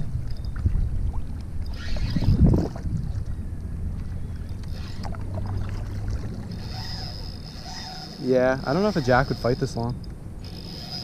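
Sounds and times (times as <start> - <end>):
water moving around boat: 0.0 - 11.0
wind rumbling on microphone: 0.0 - 11.0.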